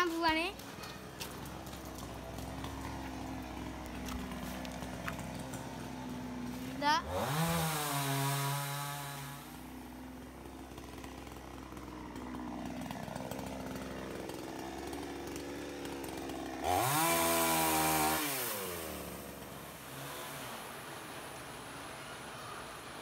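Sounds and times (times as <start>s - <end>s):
chainsaw revving: 0.0s - 23.0s.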